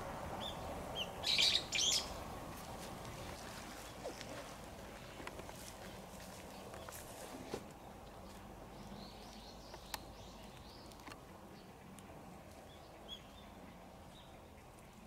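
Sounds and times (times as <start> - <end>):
distant small birds chirping: 0.0 - 15.0.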